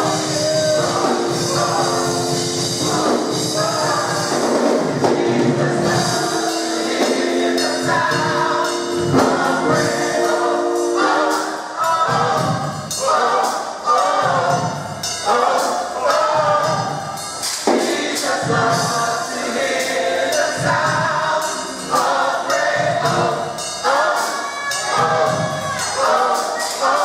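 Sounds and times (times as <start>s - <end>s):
gospel choir singing: 0.0s - 27.0s
tambourine jingle: 0.0s - 27.0s.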